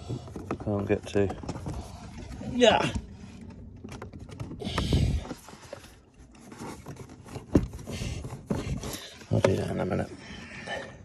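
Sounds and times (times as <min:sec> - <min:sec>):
plastic scraping and rubbing: 0:00.1 - 0:10.2.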